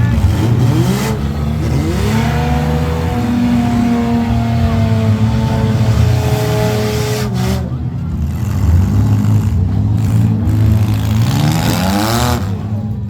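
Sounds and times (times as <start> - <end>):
engines revving hard: 0.0 - 13.0.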